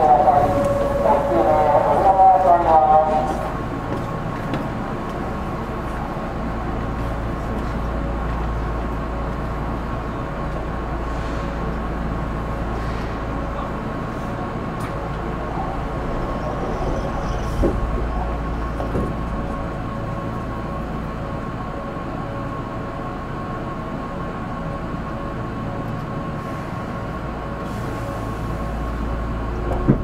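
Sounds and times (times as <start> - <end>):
electric train hum: 0.0 - 30.0.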